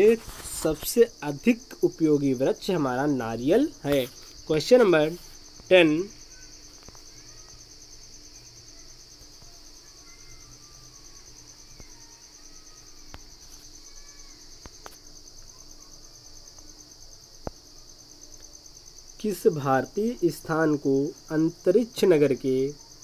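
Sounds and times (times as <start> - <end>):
high-pitched insect trill: 0.0 - 23.0.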